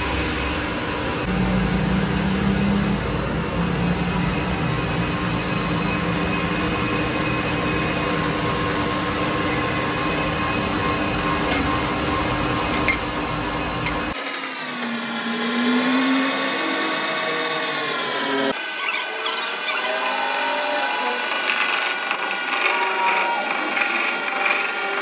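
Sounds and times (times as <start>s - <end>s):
metal lathe humming: 0.0s - 25.0s
wavering cutting whine: 0.0s - 25.0s.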